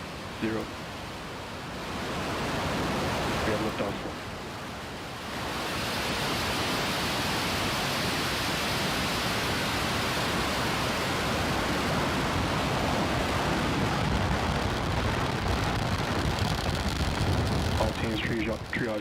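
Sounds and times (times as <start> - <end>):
rocket engines roaring: 2.3 - 4.4, 5.5 - 19.0.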